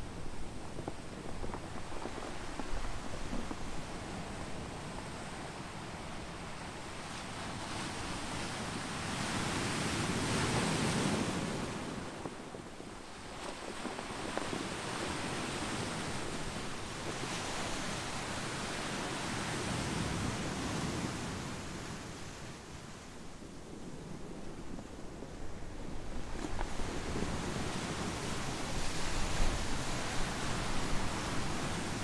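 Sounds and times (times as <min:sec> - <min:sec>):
surf washing over pebbles: 0:00.0 - 0:32.0.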